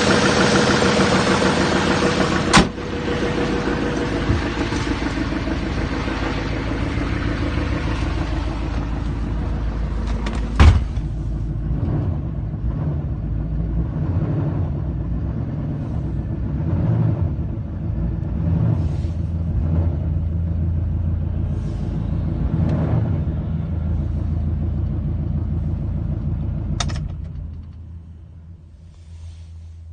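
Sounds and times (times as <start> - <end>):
diesel engine idling with knock: 0.0 - 28.4.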